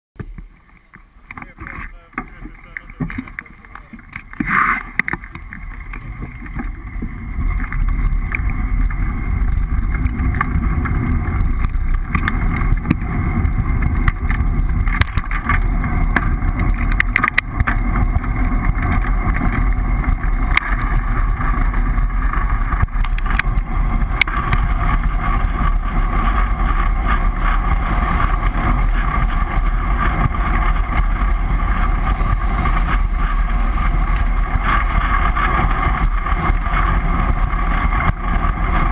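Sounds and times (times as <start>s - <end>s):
tyre and road rumble: 0.2s - 38.9s
sharp knocks from road bumps: 1.3s - 38.9s
wind buffeting microphone: 5.0s - 38.9s.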